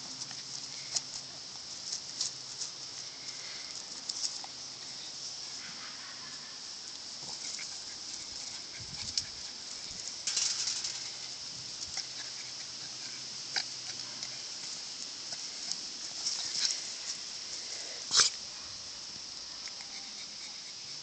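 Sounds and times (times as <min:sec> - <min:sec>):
dogs scuffling on grass: 0:00.0 - 0:18.3
steady high hiss: 0:00.0 - 0:21.0.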